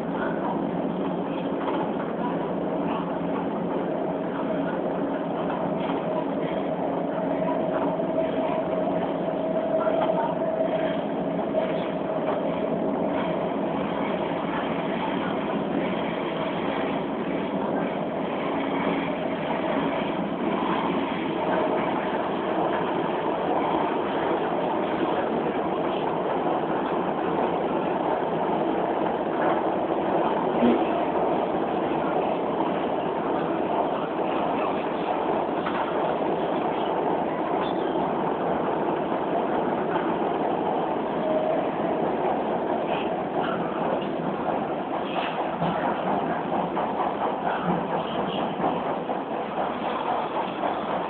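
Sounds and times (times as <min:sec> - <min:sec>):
steady whine: 0:00.0 - 0:51.0
train rail rumble: 0:00.0 - 0:51.0.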